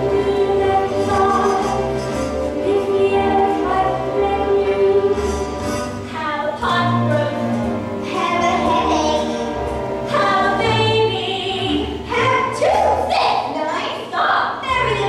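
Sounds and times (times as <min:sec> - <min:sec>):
women singing a duet: 0:00.0 - 0:09.2, 0:10.0 - 0:15.0
instrumental accompaniment: 0:00.0 - 0:15.0.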